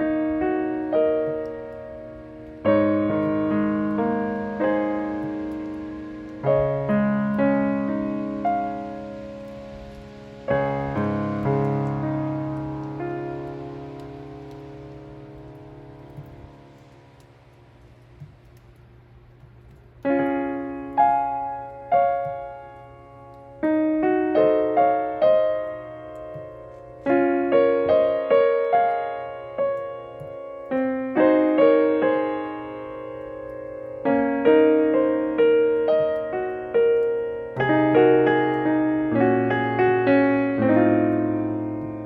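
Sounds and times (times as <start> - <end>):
solo piano music: 0.0 - 42.0.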